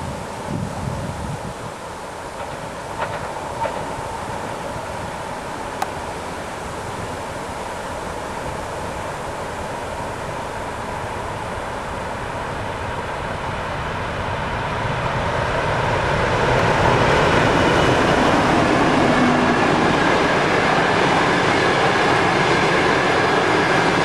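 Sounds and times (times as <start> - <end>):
diesel locomotive passing: 0.0 - 24.0
carriages rolling on rails: 1.8 - 24.0.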